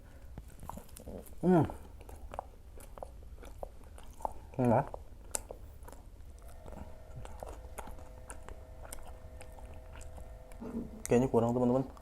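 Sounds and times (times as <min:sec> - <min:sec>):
faint steady hum: 0:00.0 - 0:12.0
person chewing crunchy snacks: 0:00.2 - 0:12.0.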